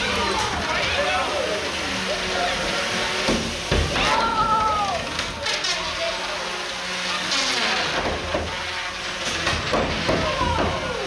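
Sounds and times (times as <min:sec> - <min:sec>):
robot motor whirring: 0:00.0 - 0:11.0.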